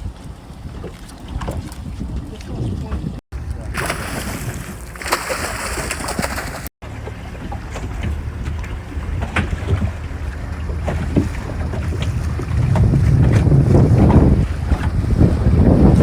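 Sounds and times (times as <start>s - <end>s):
motorboat engine running: 0.0s - 16.0s
wind: 0.0s - 16.0s.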